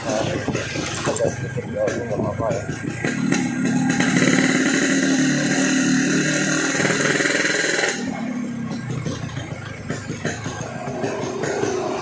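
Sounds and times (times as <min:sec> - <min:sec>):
two-stroke motorcycle engine buzzing: 0:00.0 - 0:12.0.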